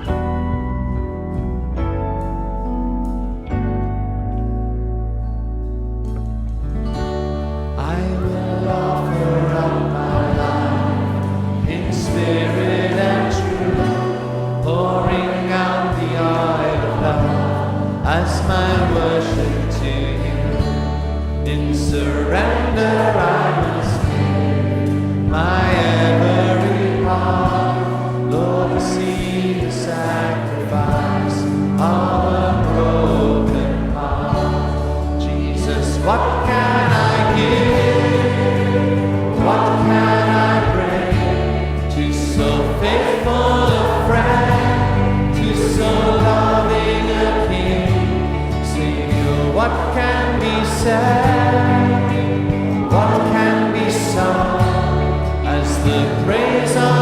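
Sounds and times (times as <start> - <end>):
sustained worship chords: 0.0 - 57.0
choir singing: 7.8 - 57.0.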